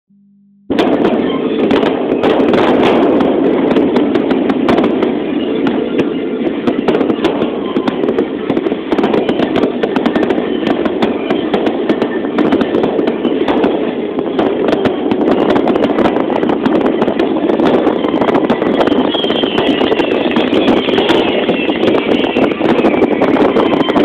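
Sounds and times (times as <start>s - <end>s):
steady rumble: 0.1s - 24.0s
fireworks bangs and crackles: 0.7s - 24.0s.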